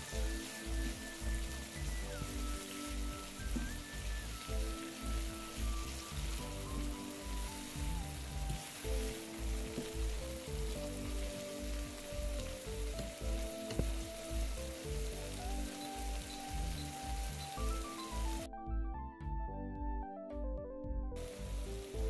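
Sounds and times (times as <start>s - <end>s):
food sizzling in a frying pan: 0.0s - 18.5s, 21.2s - 22.0s
background music with a beat: 0.0s - 22.0s.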